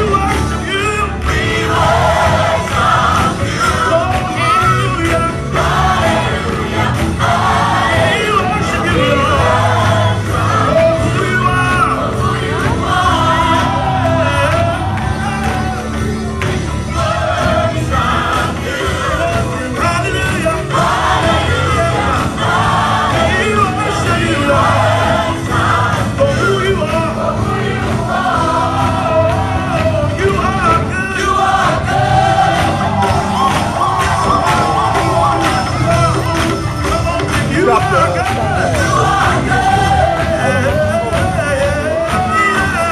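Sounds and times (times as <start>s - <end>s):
band with bass line: 0.0s - 42.9s
voices singing gospel: 0.0s - 42.9s.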